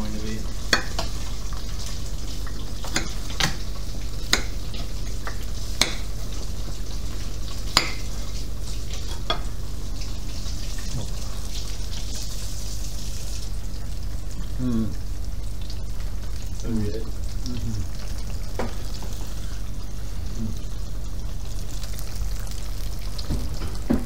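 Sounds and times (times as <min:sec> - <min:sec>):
hot oil sizzling: 0:00.0 - 0:24.0.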